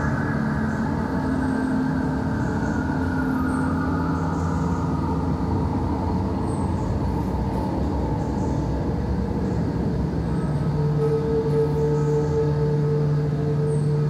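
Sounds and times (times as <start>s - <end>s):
droning tone: 0.0s - 14.0s.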